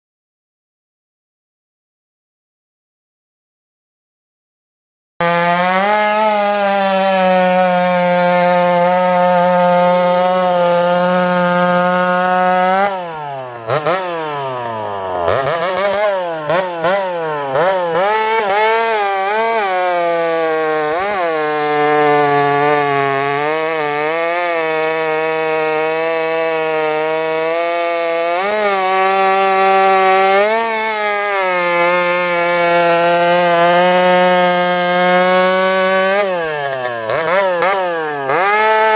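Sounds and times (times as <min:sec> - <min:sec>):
chainsaw running: 0:05.2 - 0:38.9.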